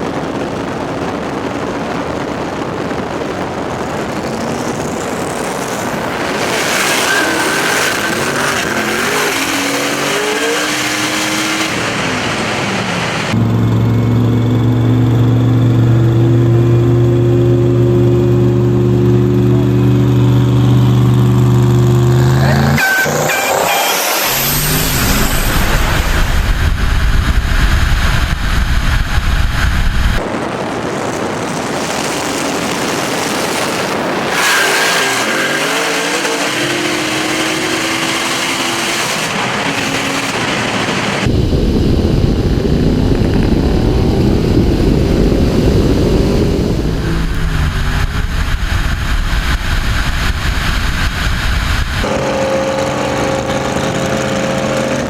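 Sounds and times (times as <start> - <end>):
drag car engines revving: 0.2 - 55.0.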